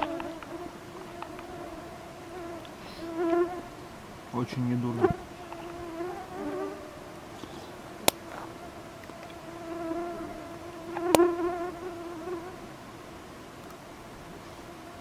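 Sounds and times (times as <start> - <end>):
flying insects buzzing: 0.0 - 15.0.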